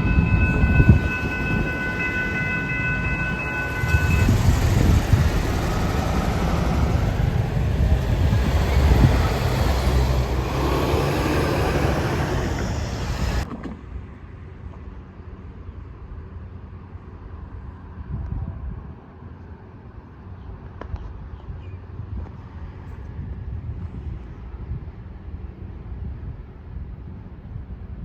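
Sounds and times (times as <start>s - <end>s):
train engines and wheels rumbling: 0.0s - 28.0s.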